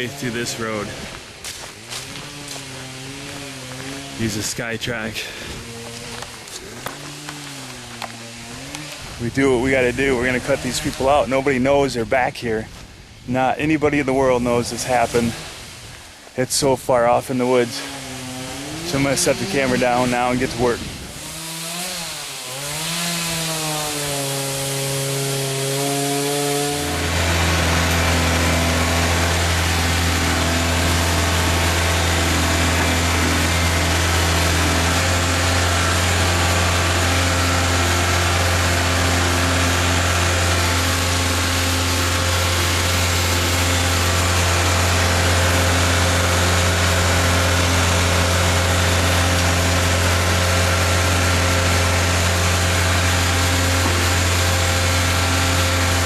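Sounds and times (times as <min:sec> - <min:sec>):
chainsaw engine revving: 0:00.0 - 0:11.6, 0:17.4 - 0:56.0.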